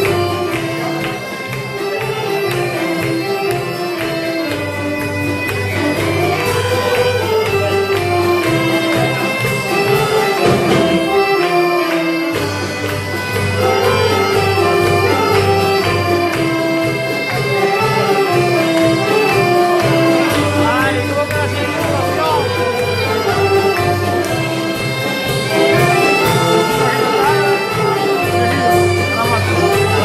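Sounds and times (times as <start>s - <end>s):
saxophone-led wind band: 0.0s - 30.0s.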